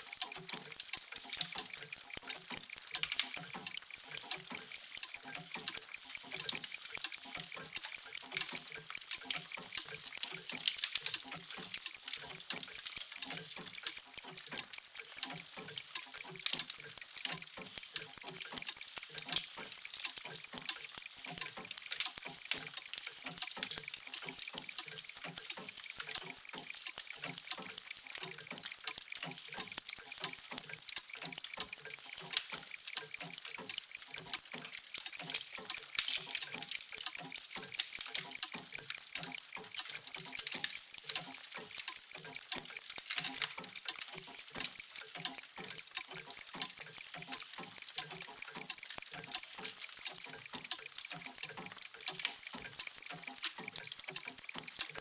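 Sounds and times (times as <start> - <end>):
mechanical clocks ticking: 0.0 - 55.0.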